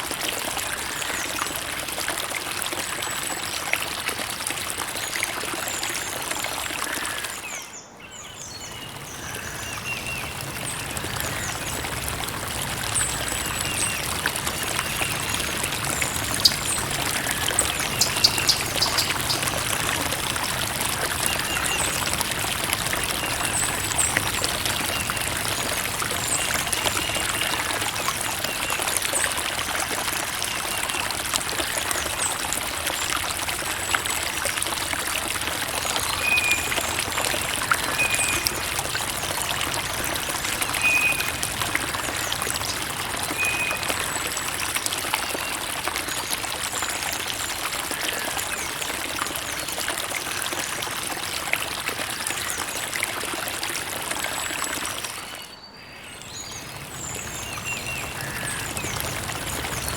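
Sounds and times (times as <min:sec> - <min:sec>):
creek water trickling: 0:00.0 - 0:59.9.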